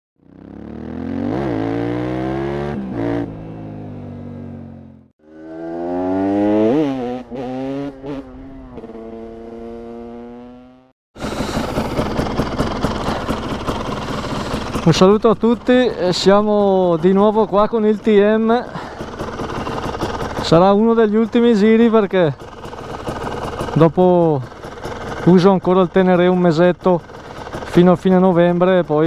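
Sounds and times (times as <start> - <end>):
two-stroke motorcycle engine revving: 0.2 - 29.0.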